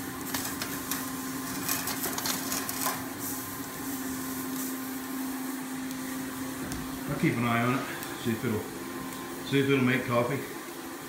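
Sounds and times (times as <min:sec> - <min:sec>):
steady hum and hiss: 0:00.0 - 0:11.0.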